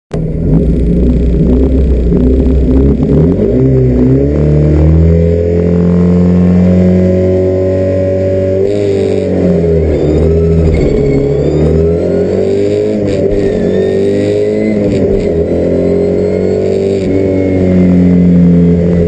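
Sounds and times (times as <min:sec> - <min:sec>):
car engine revving: 0:00.1 - 0:19.0.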